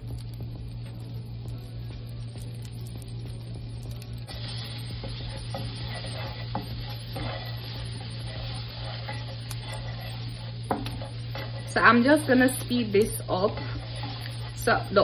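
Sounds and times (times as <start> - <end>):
butter sizzling in frying pan: 0.0 - 15.0
spatula scraping and tapping pan: 2.2 - 15.0.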